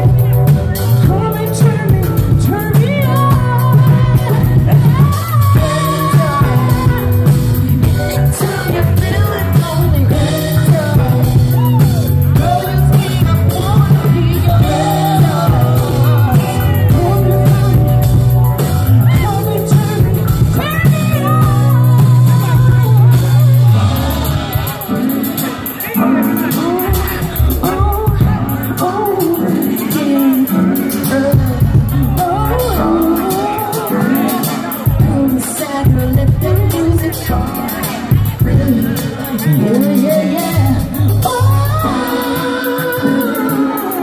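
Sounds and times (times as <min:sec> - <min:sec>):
deep bass notes: 0:00.0 - 0:29.9, 0:30.5 - 0:43.2
drums: 0:00.0 - 0:44.0
electric guitar: 0:00.0 - 0:44.0
man singing: 0:00.0 - 0:44.0.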